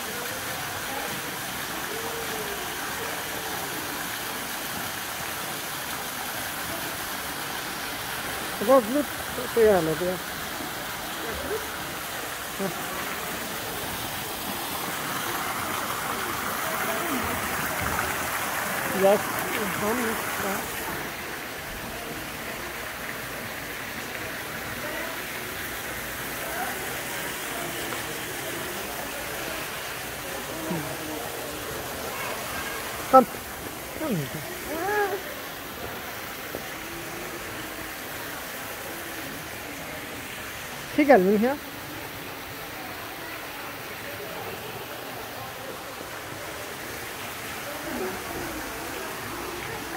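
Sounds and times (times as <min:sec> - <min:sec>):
waterfall pouring into pond: 0:00.0 - 0:49.9.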